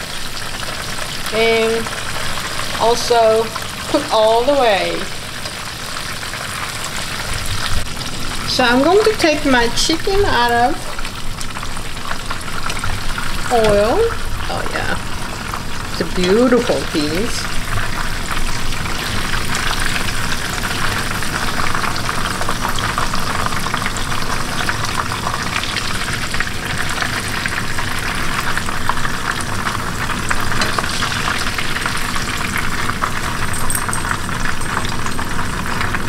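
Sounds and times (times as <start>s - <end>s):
chicken deep-frying in oil: 0.0s - 36.0s.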